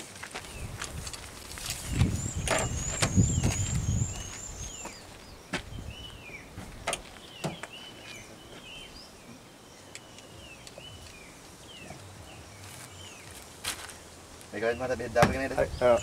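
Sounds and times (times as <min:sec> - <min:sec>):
faint outdoor background noise: 0:00.0 - 0:16.0
small birds chirping: 0:00.0 - 0:16.0.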